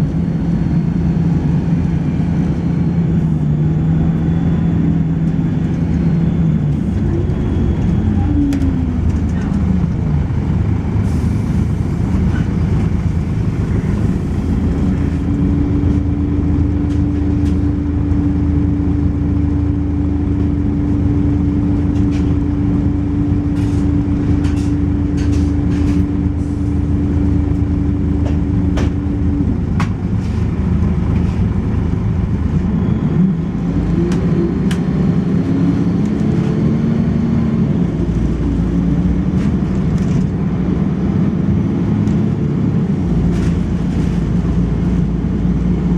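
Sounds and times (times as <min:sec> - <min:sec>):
bus body rattling: 0:00.0 - 0:45.9
bus diesel engine: 0:00.0 - 0:45.9.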